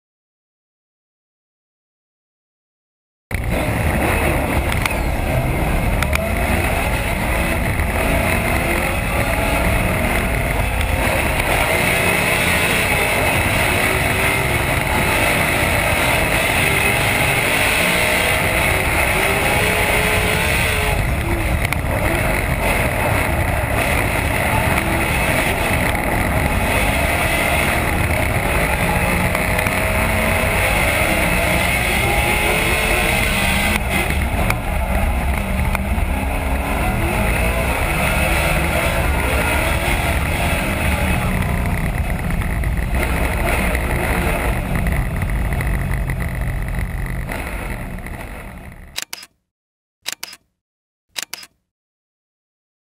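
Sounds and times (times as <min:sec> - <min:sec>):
car engines revving: 0:03.3 - 0:49.3.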